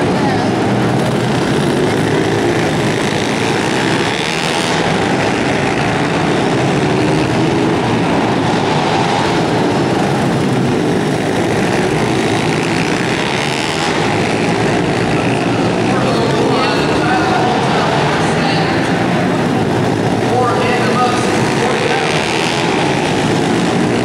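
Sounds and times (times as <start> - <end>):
motorbike engines revving: 0.0 - 24.0.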